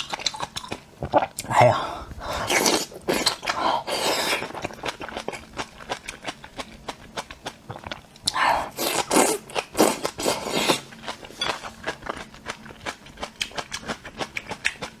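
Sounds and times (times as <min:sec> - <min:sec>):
chewing and crunching: 0:00.0 - 0:01.5, 0:02.5 - 0:15.0.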